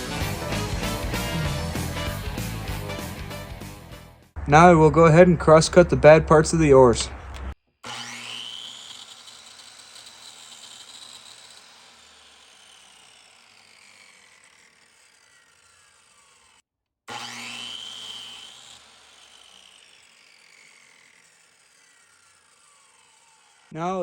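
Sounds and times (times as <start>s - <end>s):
electric saw motor whining: 0.0s - 4.0s, 7.1s - 23.8s
saw cutting wood: 0.0s - 4.0s, 5.1s - 24.0s.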